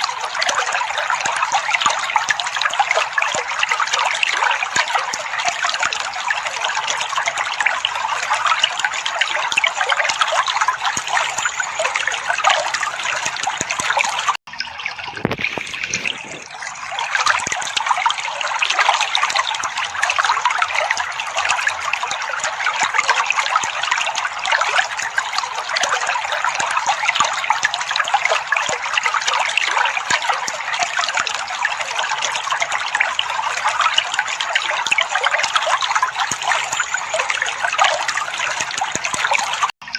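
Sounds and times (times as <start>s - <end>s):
trickling splashing water: 0.0s - 39.9s.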